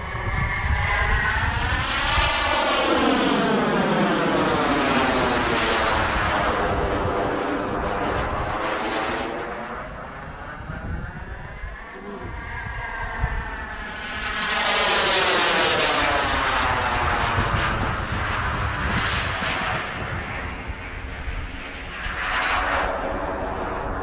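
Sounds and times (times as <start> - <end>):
model jet engine whine passing: 0.0 - 24.0.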